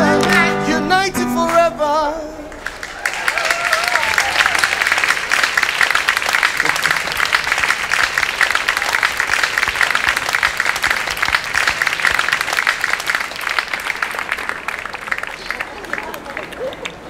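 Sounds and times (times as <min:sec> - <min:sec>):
crowd applauding: 0:02.5 - 0:17.0.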